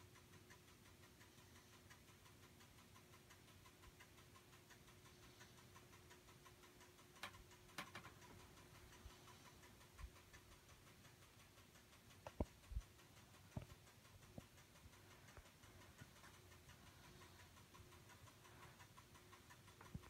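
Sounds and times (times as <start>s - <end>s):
faint steady hum: 0.0s - 20.0s
soft clicks: 0.0s - 20.0s.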